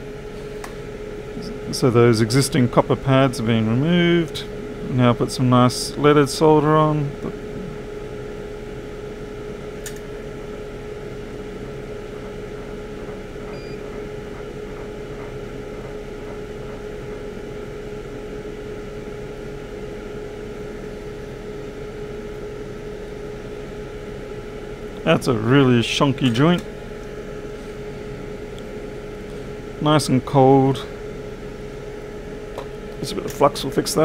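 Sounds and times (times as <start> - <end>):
fan-like hum: 0.0 - 34.0.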